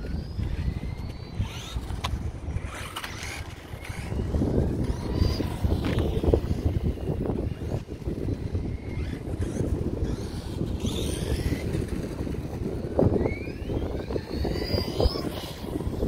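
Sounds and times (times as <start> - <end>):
distant rc car motors whining: 0.0 - 16.0
wind buffeting microphone: 0.0 - 16.0.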